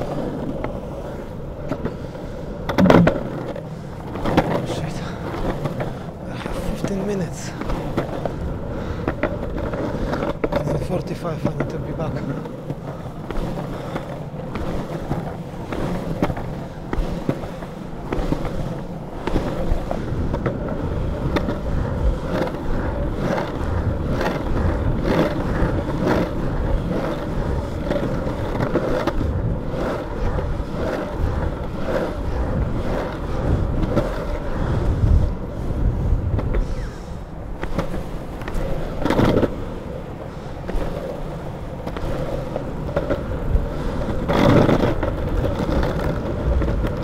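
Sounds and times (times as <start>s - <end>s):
longboard wheels rolling on pavement: 0.0s - 47.0s
rider kick-pushing: 0.0s - 47.0s.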